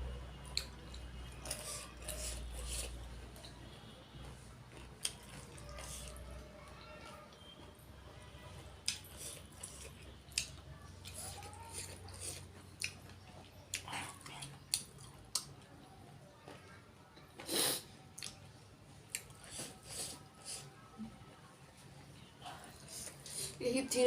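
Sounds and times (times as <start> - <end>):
chewing food: 0.4 - 17.5, 18.1 - 21.2.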